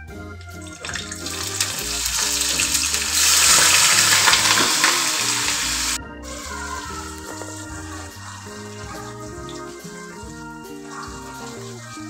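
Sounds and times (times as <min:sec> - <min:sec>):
background music: 0:00.0 - 0:12.0
spices sizzling in hot oil: 0:00.4 - 0:12.0.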